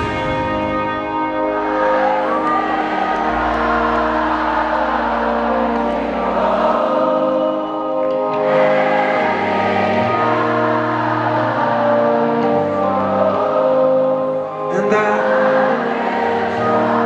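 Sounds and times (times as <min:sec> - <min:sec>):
crowd singing along: 0:00.0 - 0:17.0
keyboard chords: 0:00.0 - 0:17.0.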